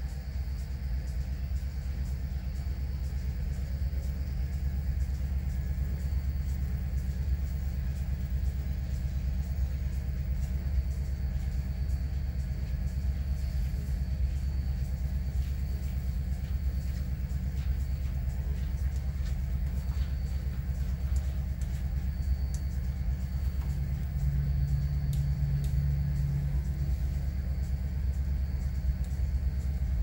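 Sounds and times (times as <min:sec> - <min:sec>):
deep diesel engine rumble: 0:00.0 - 0:30.0
strong hum: 0:00.0 - 0:30.0.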